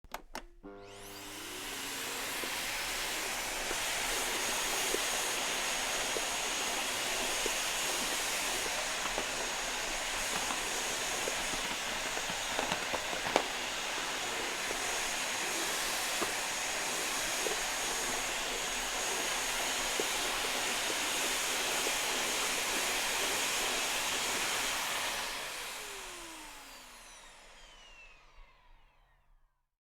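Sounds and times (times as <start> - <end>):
vacuum cleaner running: 0.4 - 29.4.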